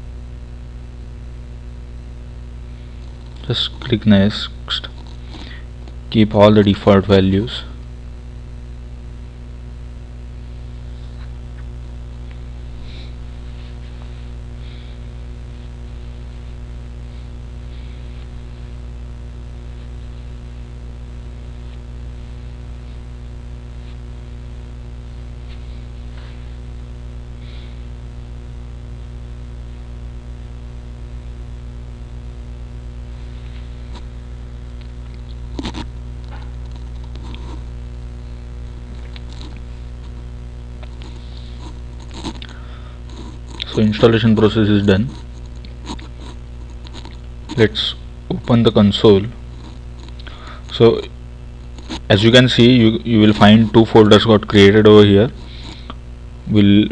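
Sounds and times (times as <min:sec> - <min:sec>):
electrical mains hum: 0:00.0 - 0:56.9.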